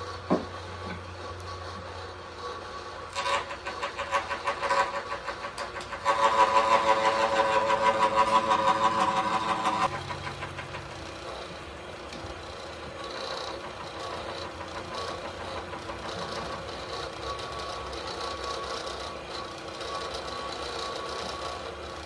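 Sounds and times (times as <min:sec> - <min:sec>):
milling cutter chattering on metal: 0:00.0 - 0:22.0
milling machine hum: 0:00.0 - 0:22.0.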